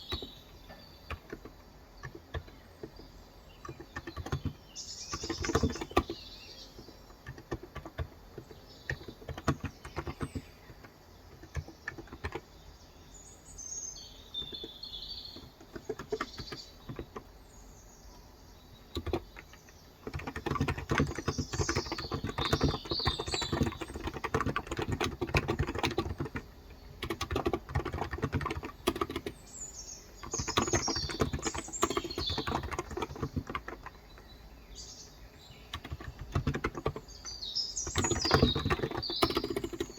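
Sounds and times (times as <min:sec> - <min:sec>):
keyboard typing: 0:00.0 - 0:12.6, 0:14.4 - 0:17.4, 0:18.8 - 0:34.4, 0:35.6 - 0:39.9
birds chirping: 0:00.0 - 0:39.9.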